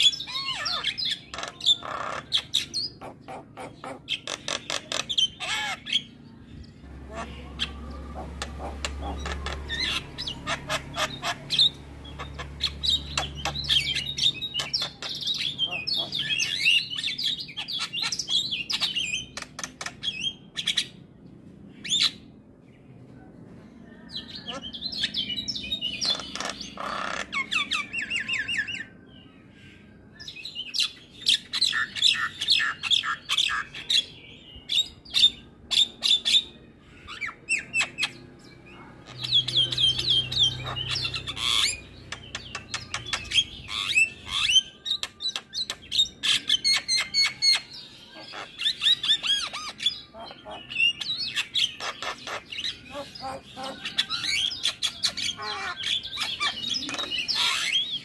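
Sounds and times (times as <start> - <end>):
myna bird singing: 0.0 - 58.0.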